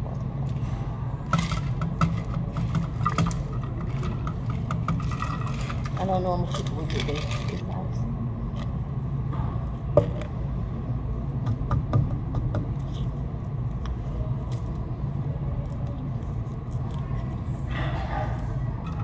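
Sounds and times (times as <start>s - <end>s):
restaurant room rumble: 0.0s - 19.0s.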